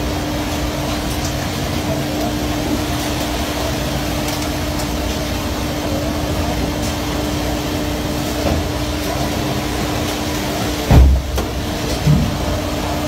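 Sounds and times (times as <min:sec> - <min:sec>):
water rushing along hull: 0:00.0 - 0:13.0.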